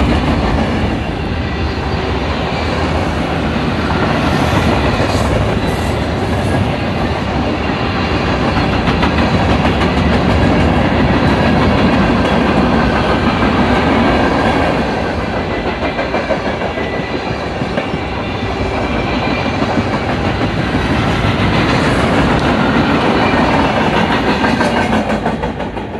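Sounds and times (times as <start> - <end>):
steel wheels rumbling on rails: 0.0 - 25.9
clickety-clack over rail joints: 3.3 - 25.9.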